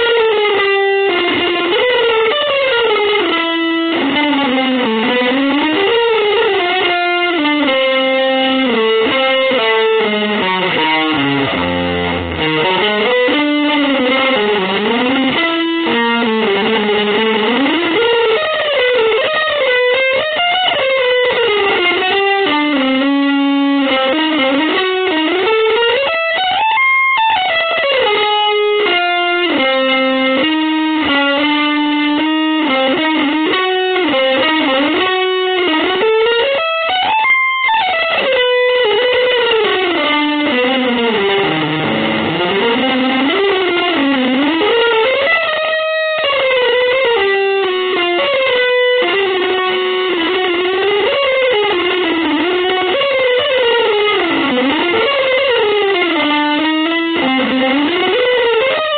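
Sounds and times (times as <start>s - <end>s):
electric guitar melody: 0.0s - 58.9s.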